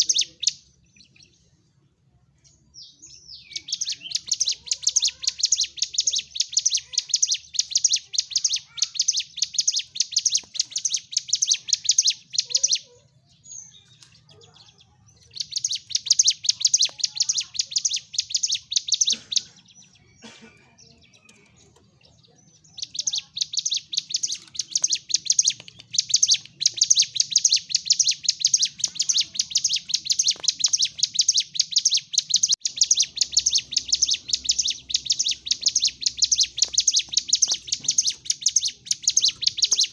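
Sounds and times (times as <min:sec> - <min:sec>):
bird singing sharp chip notes: 0:02.4 - 0:39.9.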